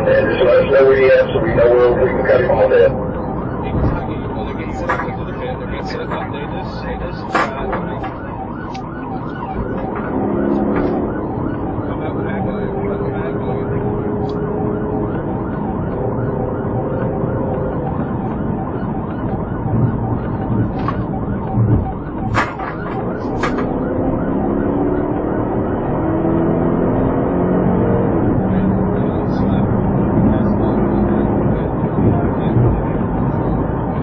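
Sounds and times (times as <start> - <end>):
car engine and road noise: 0.0 - 34.0
police siren: 0.0 - 34.0.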